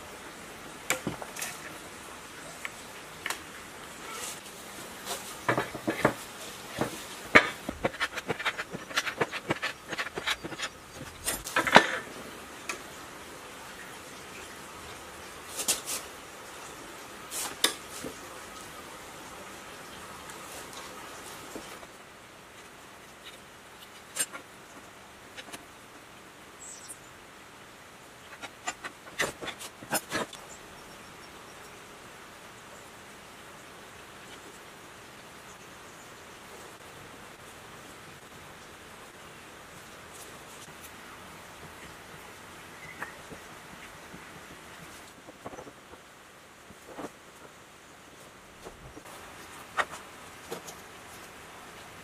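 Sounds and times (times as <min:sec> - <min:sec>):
steady soft hiss: 0:00.0 - 0:52.0.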